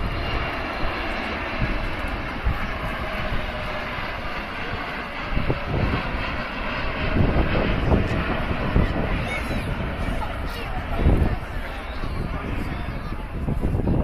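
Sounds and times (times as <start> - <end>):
airplane flying by: 0.0 - 14.0.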